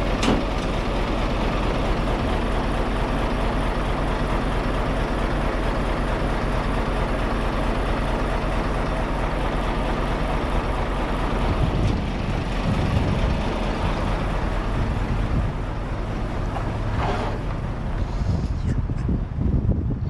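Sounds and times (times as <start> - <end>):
diesel lorry engine running: 0.0 - 20.0.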